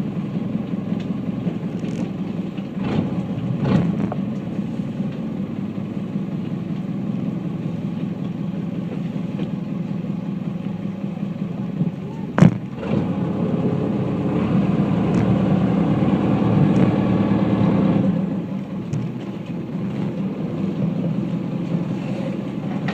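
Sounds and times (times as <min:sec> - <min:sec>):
boat engine running: 0:00.0 - 0:22.9.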